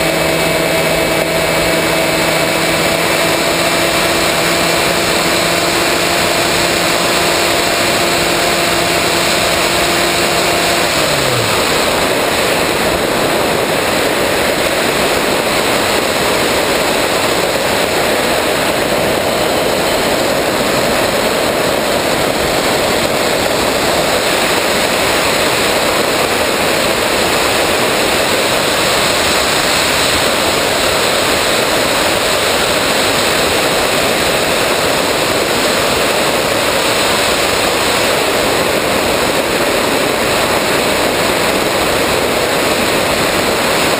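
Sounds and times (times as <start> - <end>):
electric motor and propeller hum: 0.0 - 43.9.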